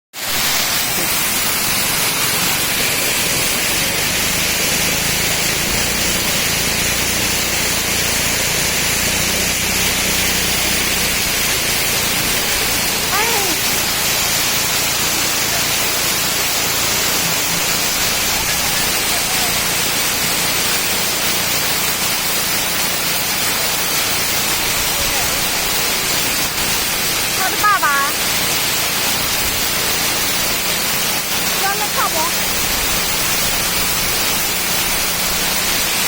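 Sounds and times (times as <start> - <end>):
waterfall rushing: 0.2 - 36.0.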